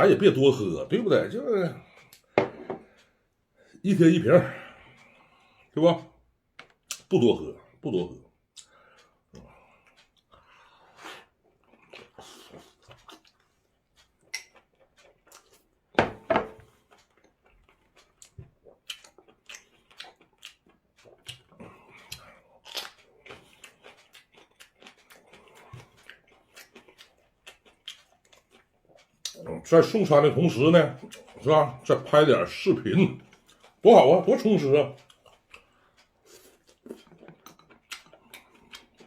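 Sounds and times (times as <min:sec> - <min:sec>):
person chewing: 0:01.7 - 0:03.2, 0:08.3 - 0:39.0.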